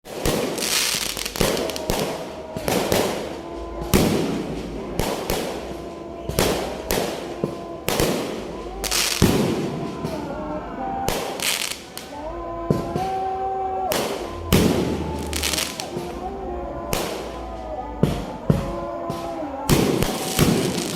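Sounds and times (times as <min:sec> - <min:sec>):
fireworks bangs: 0:00.0 - 0:20.9.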